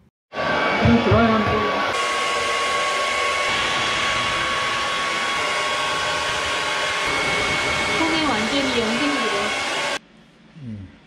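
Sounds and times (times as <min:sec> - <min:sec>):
hair dryer running: 0:00.3 - 0:10.0.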